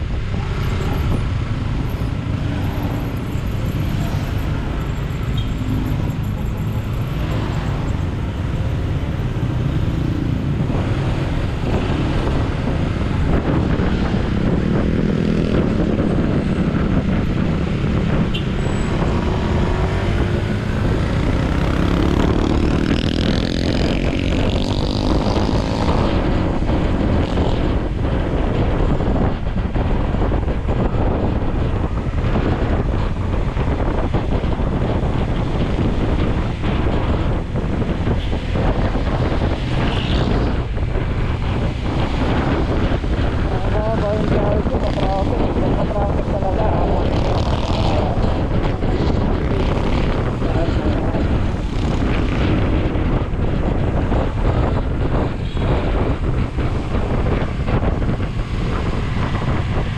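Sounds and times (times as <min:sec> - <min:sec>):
passing motorcycles and cars: 0:00.0 - 0:59.9.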